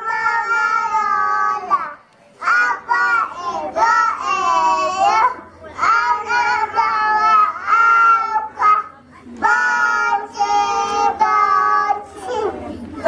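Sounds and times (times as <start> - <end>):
children singing into microphone: 0.0 - 13.0.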